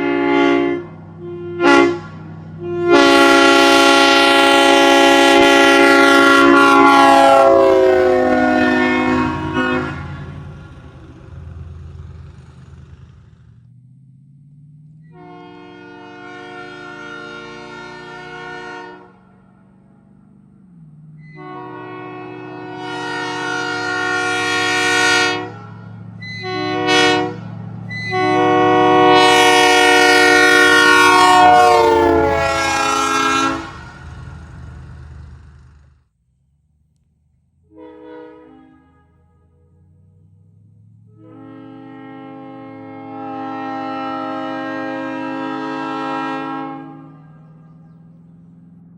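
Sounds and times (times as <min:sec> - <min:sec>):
locomotive air horn blasts: 0:00.0 - 0:13.1, 0:15.1 - 0:19.4, 0:21.3 - 0:35.4, 0:37.7 - 0:39.9, 0:41.1 - 0:47.7.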